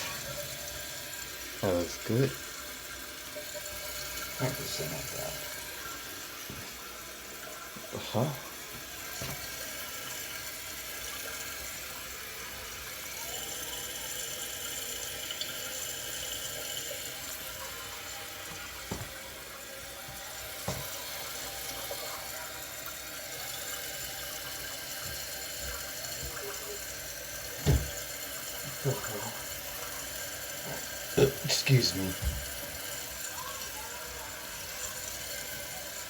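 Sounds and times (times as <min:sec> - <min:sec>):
toilet tank refilling: 0:00.0 - 0:36.0.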